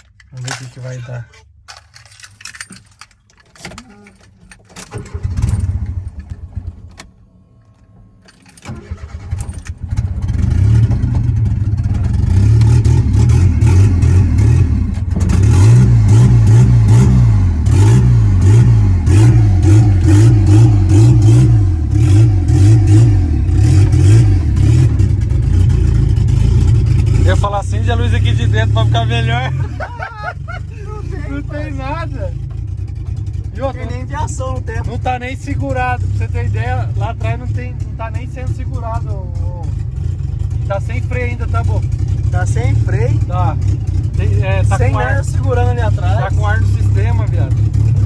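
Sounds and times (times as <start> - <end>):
engine starting and idling: 1.8 - 17.0, 17.6 - 48.0.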